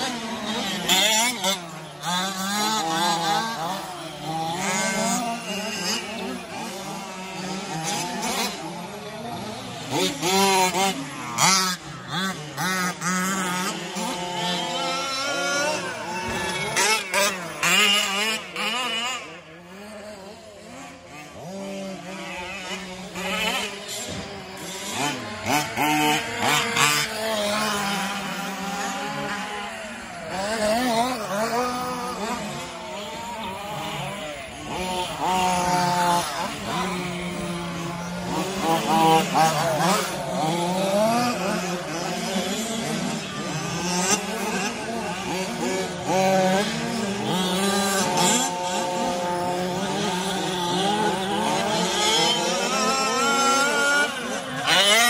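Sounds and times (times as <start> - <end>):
remote-control truck motors: 0.0 - 55.0.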